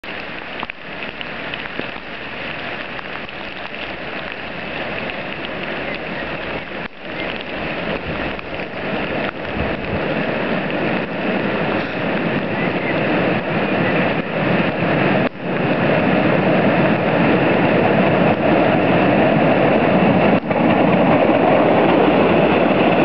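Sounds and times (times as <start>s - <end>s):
heavy rain falling: 0.0s - 23.0s
rumble of coasting train wagons: 0.0s - 23.0s.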